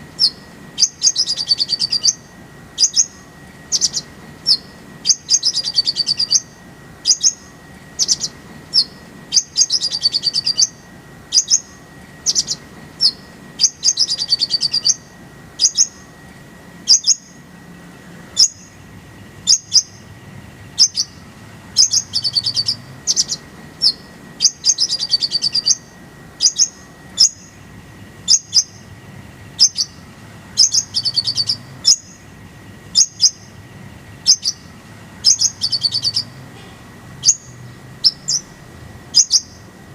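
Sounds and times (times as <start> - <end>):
bird chirping and trilling: 0.0 - 16.2, 16.8 - 17.5, 18.3 - 36.5, 37.1 - 39.8.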